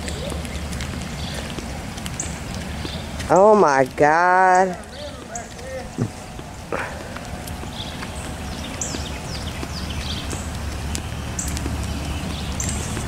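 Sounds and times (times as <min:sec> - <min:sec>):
birds chirping: 0:00.0 - 0:13.0
steady rain: 0:00.0 - 0:13.0.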